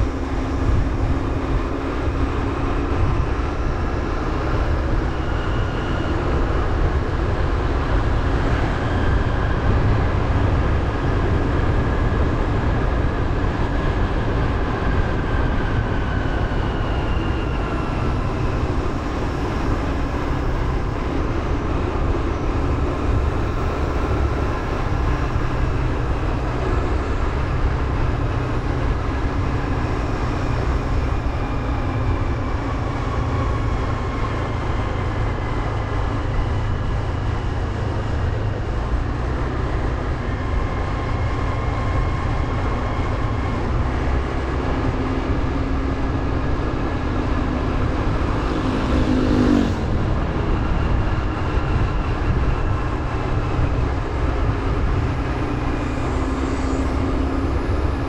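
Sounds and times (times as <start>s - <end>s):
motorbike engine hum: 0.0s - 58.0s
wind rumble on microphone: 0.0s - 58.0s.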